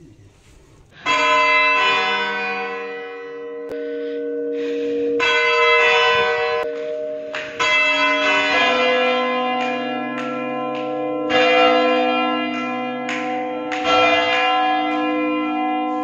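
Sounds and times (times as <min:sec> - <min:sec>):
tower clock bells ringing: 0:00.9 - 0:16.0.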